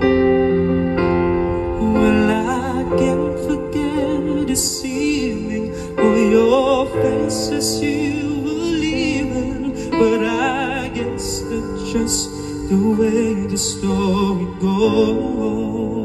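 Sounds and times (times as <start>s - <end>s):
slow ballad music: 0.0s - 16.0s.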